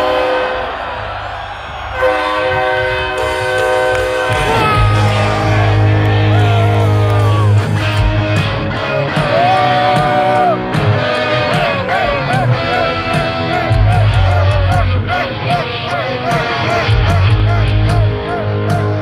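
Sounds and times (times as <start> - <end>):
lead electric guitar bending notes: 2.1 - 19.0
live rock band: 3.2 - 19.0.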